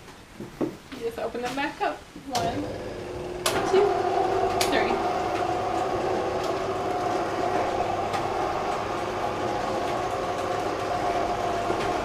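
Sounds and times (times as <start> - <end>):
window shade motors humming: 2.3 - 12.0.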